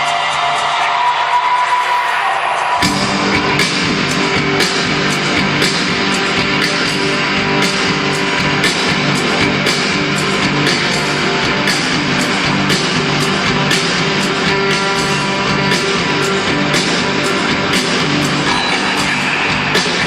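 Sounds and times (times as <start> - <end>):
electric guitar sustained notes: 2.8 - 20.0
rock band playing live: 2.8 - 20.0
steady drum beat: 2.8 - 20.0.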